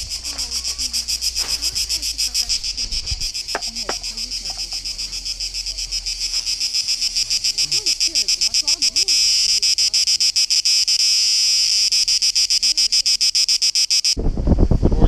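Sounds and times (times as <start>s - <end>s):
cicadas singing: 0.0s - 14.2s.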